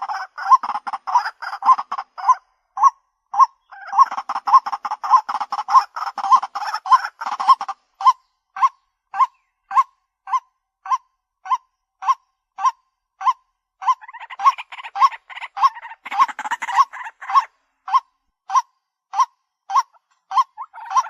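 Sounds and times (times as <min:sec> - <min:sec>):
bird hooting calls: 0:00.0 - 0:21.0
bird rapid chattering: 0:00.0 - 0:21.0.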